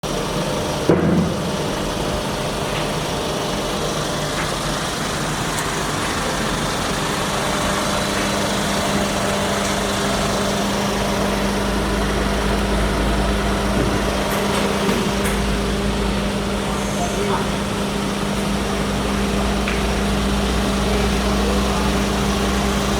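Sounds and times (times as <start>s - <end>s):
deep engine rumble: 0.0s - 22.9s.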